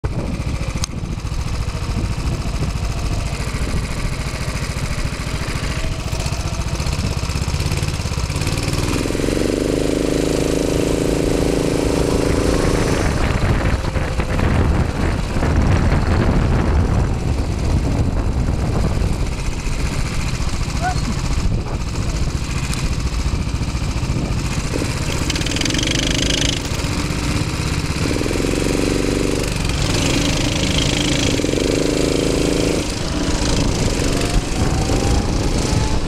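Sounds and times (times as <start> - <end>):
go-kart engine running: 0.0 - 36.0.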